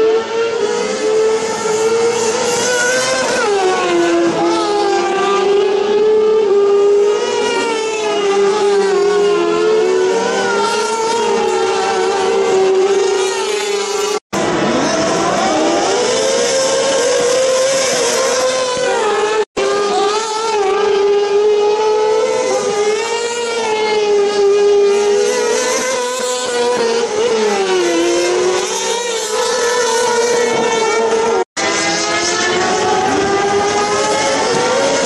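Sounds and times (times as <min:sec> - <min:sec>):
high-revving racing engines: 0:00.0 - 0:35.0.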